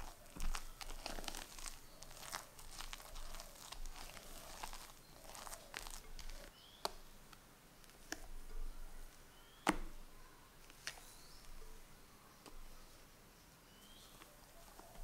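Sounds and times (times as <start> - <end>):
spatula folding batter squelches: 0.0 - 15.0.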